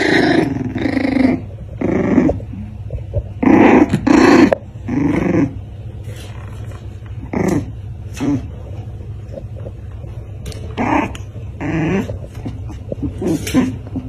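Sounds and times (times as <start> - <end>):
puppies growling: 0.0 - 14.0.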